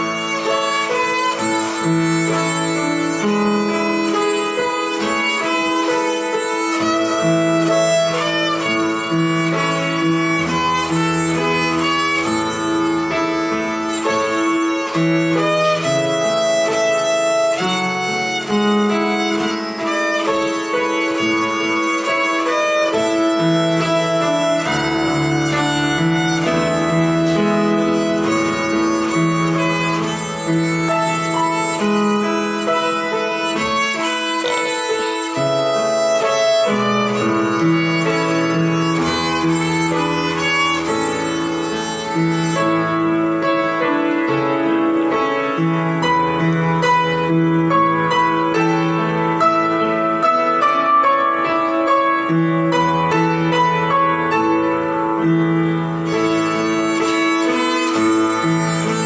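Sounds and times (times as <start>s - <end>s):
lower accompaniment: 0.0s - 59.0s
violin melody: 0.0s - 59.0s.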